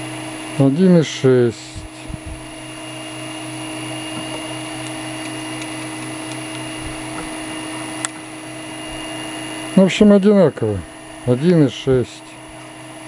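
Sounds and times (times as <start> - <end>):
electric motor humming and whining: 0.0 - 13.0.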